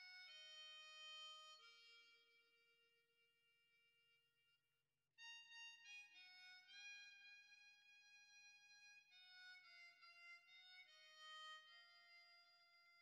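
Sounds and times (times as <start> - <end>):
slow harmonica melody: 0.0 - 2.7, 5.2 - 13.0.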